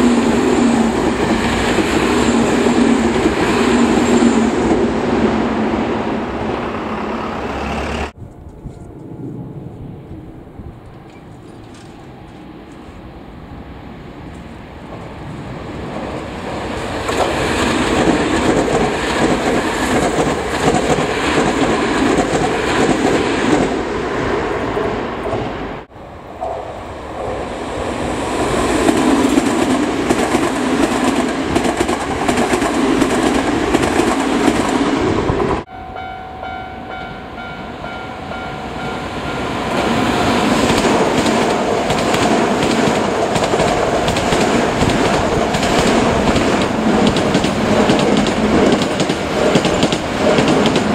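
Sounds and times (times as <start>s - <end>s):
electric train passing: 0.0s - 50.9s.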